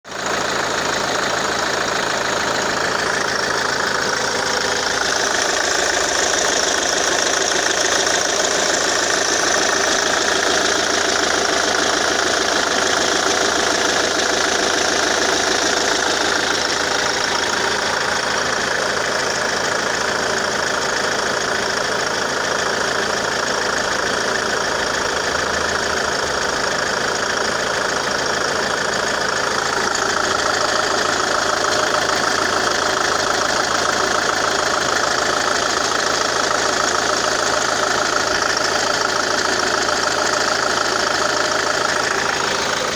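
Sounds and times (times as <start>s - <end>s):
diesel engine idling: 0.1s - 42.9s.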